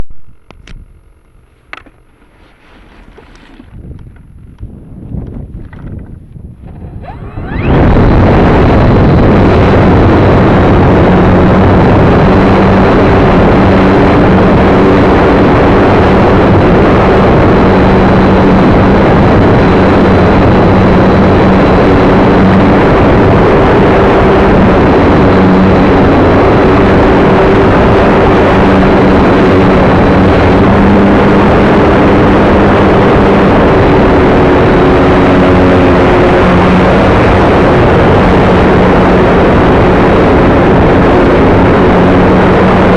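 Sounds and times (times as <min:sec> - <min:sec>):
electric propeller hum: 0:00.0 - 0:42.9
wind rush on microphone: 0:02.0 - 0:42.9.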